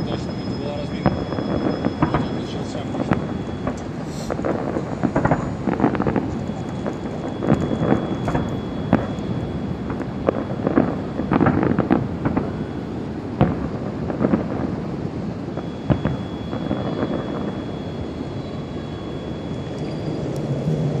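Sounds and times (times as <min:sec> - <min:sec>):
firework shells bursting: 0:00.0 - 0:20.4
background hiss and rumble: 0:00.0 - 0:21.0.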